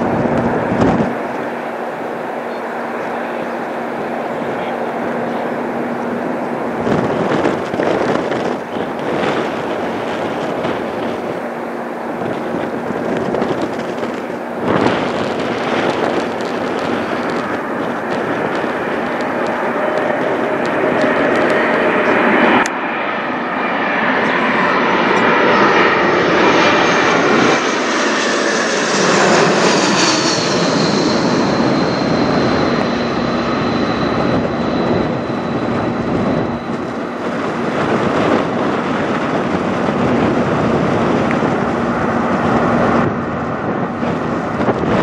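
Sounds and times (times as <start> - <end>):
jet aircraft passing overhead: 0.0 - 45.0.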